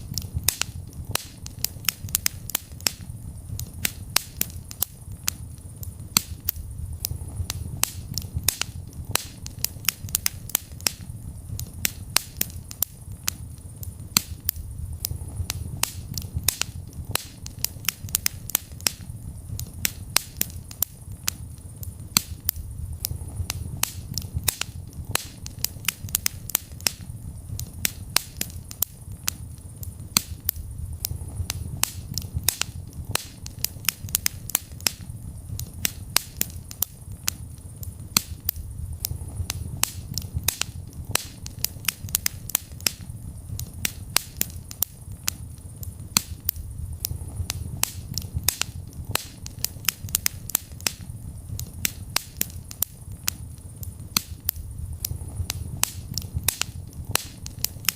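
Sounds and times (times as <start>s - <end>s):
low rumble of burning: 0.0s - 57.9s
wood fire crackling: 0.0s - 57.9s.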